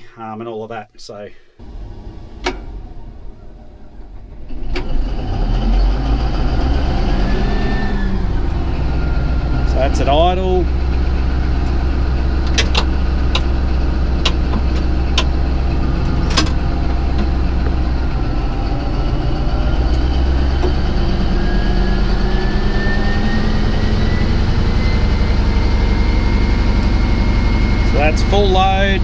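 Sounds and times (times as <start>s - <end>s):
bulldozer diesel engine: 1.6s - 29.0s
whine rising in pitch: 1.6s - 29.0s.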